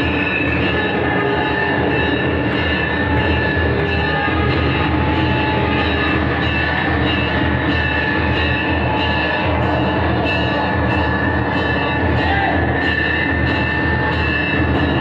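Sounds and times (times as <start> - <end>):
bells ringing: 0.0 - 15.0
drumming: 0.0 - 15.0.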